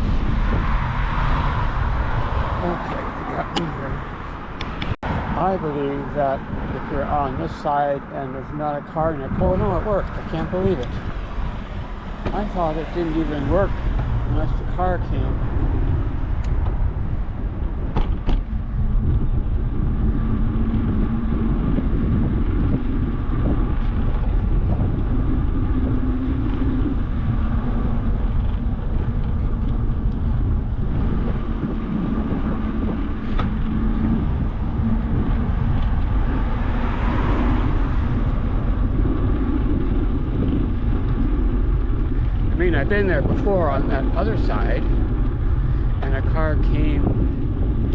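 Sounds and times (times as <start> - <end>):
road traffic passing: 0.0 - 47.9
wind rumble on microphone: 0.0 - 47.9.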